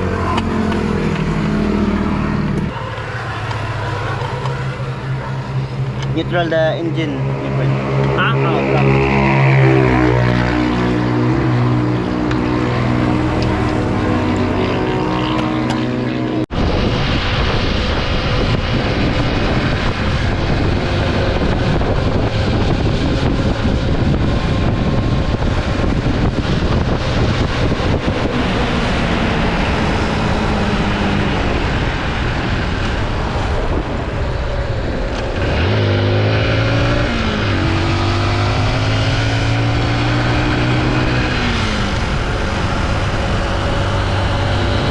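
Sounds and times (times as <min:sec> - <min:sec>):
motorbike engine accelerating: 0:00.0 - 0:44.9
steady rushing noise: 0:00.0 - 0:44.9.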